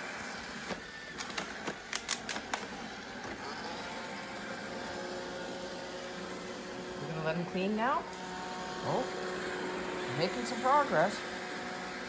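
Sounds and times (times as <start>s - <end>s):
robot vacuum whirring on carpet: 0.0s - 12.0s.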